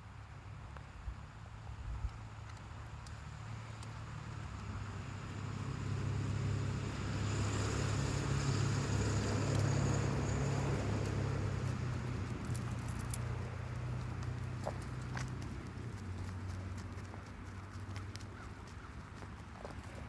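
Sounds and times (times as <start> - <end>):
vehicle engine hum: 0.8 - 20.0.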